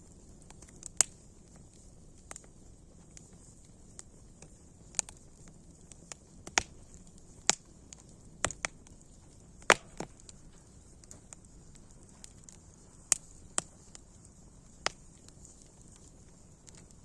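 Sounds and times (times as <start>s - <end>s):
campfire crackling and popping: 0.0s - 17.0s
faint steady hiss: 0.0s - 17.0s.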